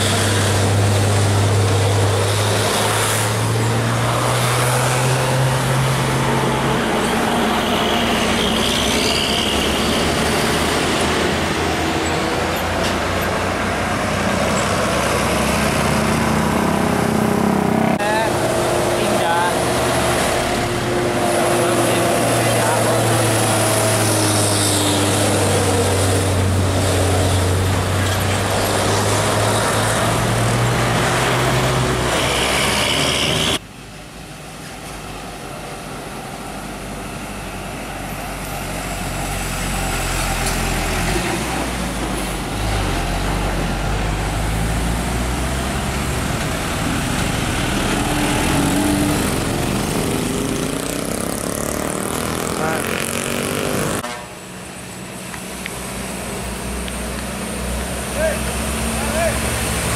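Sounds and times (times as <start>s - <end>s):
approaching truck engine: 0.0s - 33.6s, 35.1s - 59.9s
diesel truck engine drone: 0.0s - 59.9s.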